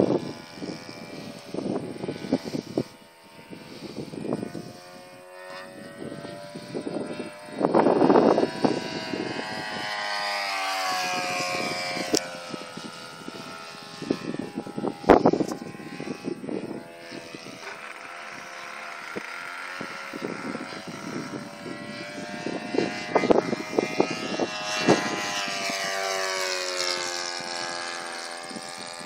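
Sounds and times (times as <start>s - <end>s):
model airplane engine in flight: 0.0s - 29.0s.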